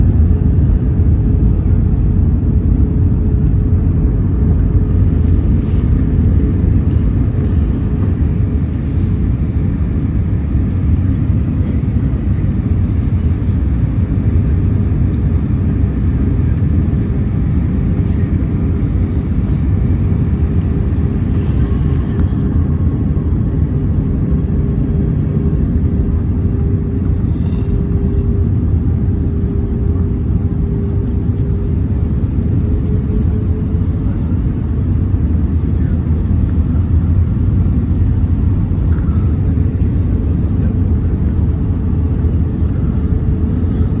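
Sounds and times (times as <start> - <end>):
steady droning tone: 0.0 - 13.4, 16.2 - 44.0
airliner cabin engine rumble: 0.0 - 44.0.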